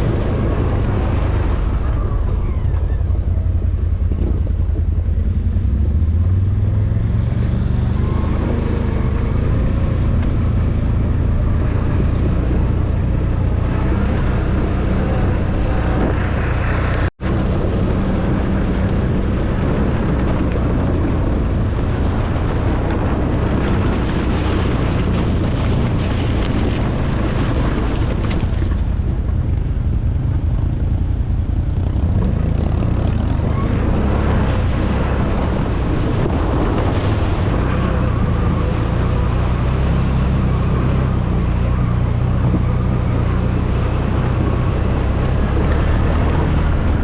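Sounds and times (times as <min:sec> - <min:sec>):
atv engine running: 0:00.0 - 0:47.0
rushing noise: 0:00.0 - 0:47.0.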